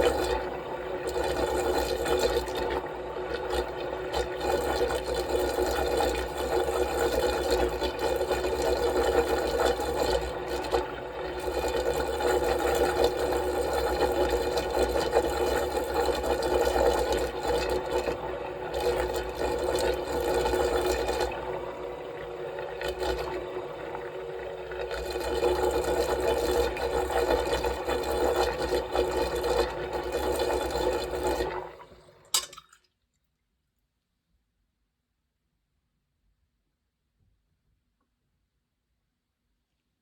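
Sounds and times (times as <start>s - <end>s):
stirrer motor whirring: 0.0s - 32.3s
water churning: 0.0s - 32.8s.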